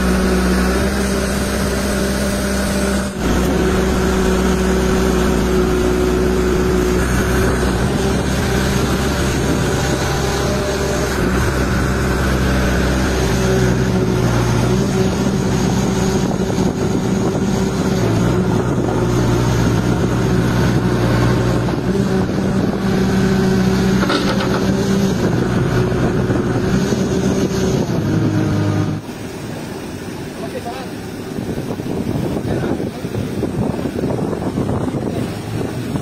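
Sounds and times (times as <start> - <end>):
diesel engine running: 0.0 - 36.0
wind noise: 0.0 - 36.0.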